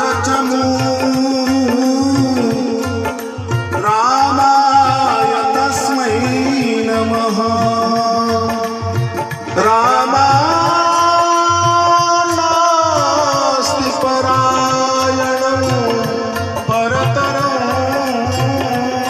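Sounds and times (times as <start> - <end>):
hand drums beating: 0.0 - 19.0.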